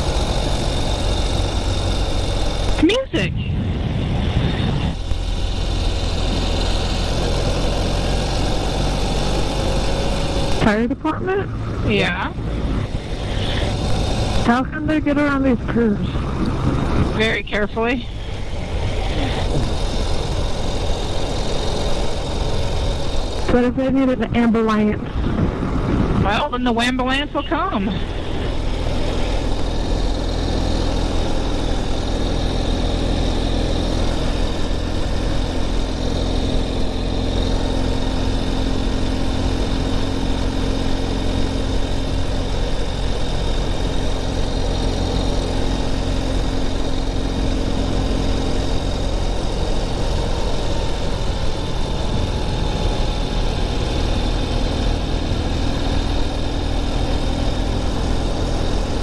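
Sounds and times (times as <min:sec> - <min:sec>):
motorcycle engine cruising: 0:00.0 - 0:59.0
wind and road noise: 0:00.0 - 0:59.0.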